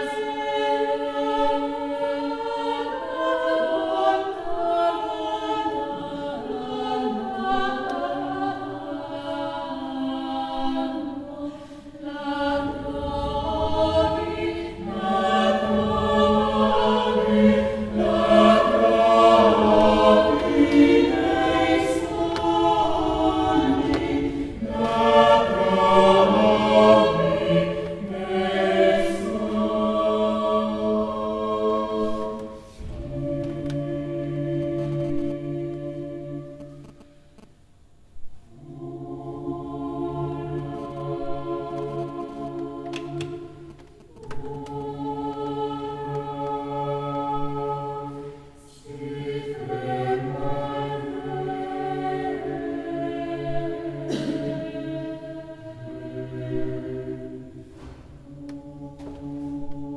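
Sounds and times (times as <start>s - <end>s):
mixed choir singing: 0.0s - 37.4s, 38.4s - 59.9s.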